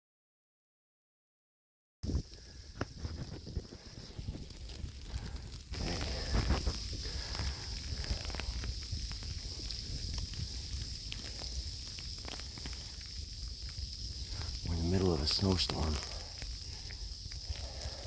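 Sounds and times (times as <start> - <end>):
steady hiss: 2.0 - 18.0
crunching and rustling: 2.8 - 18.0.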